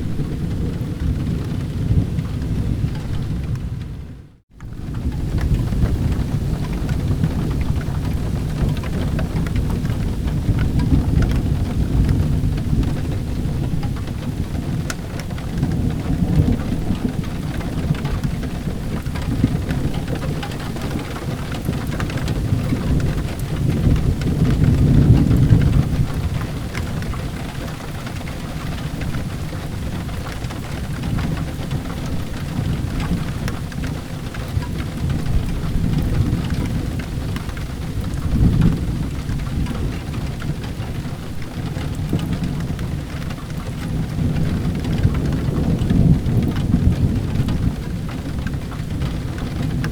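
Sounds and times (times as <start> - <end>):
deep rolling thunder: 0.0 - 49.9
steady rain: 0.0 - 49.9.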